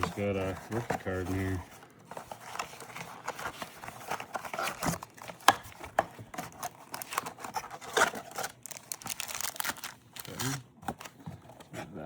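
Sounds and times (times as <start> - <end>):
card pack wrapper crinkling: 0.0 - 11.1.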